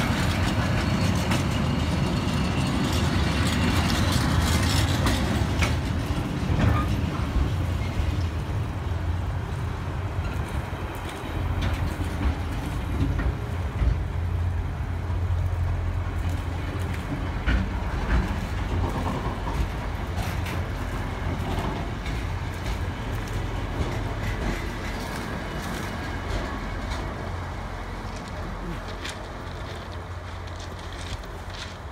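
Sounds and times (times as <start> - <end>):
train wheels rumbling: 0.0 - 31.9.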